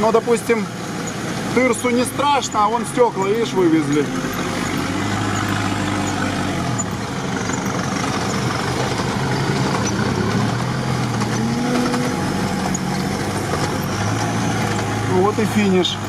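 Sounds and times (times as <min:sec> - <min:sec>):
road noise rushing: 0:00.0 - 0:16.0
vehicle engine running: 0:00.0 - 0:16.0.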